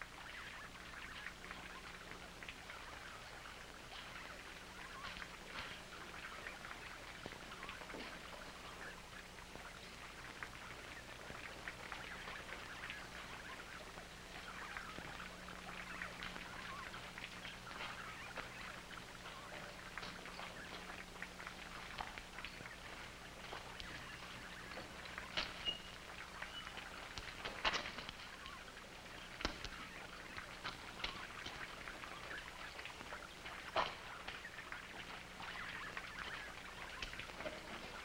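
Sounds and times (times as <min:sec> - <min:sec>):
bats squeaking and chittering: 0:00.1 - 0:38.0.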